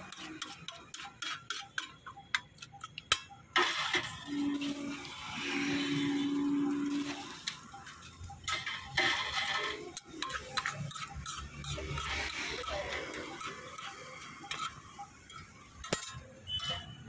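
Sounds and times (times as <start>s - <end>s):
steel spatula scraping on iron pan: 0.0s - 17.0s.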